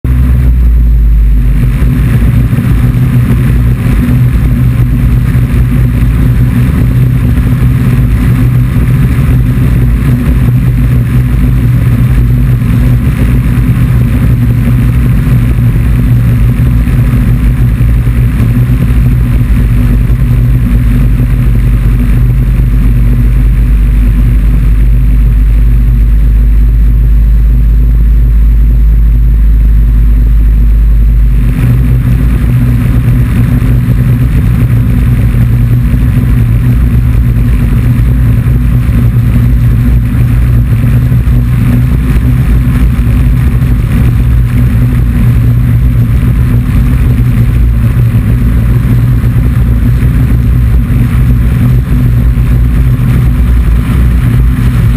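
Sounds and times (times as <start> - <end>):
aircraft engine droning: 0.0 - 54.9.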